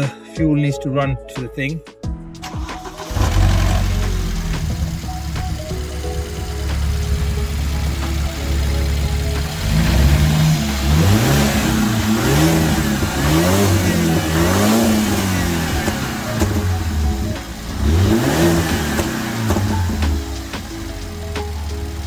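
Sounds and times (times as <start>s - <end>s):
car engine idling: 2.4s - 22.0s
car engine revving: 2.4s - 22.0s.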